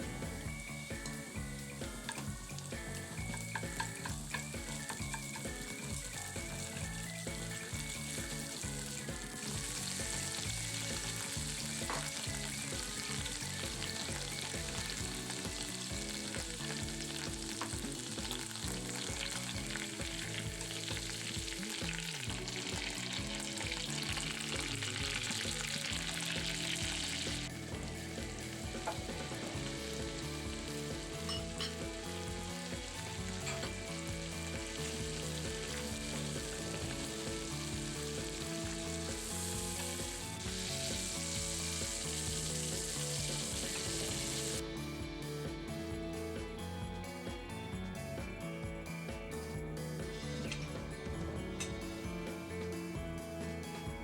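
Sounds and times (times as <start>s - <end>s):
food sizzling in a frying pan: 0.0s - 44.6s.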